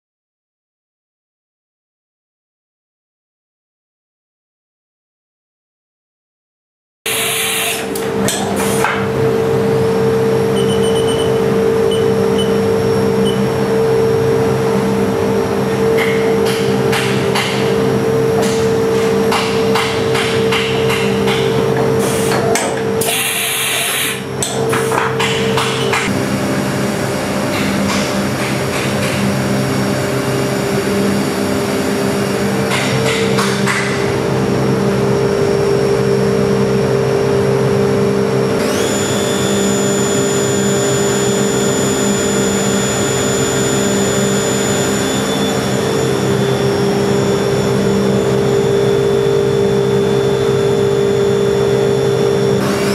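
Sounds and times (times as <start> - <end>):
machine humming: 7.1 - 32.8, 34.1 - 52.9.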